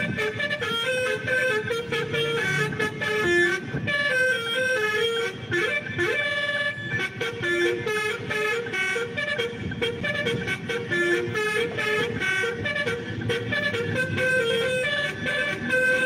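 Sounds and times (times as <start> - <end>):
low vehicle rumble: 0.0 - 16.0
melodic vehicle horn: 0.0 - 16.0.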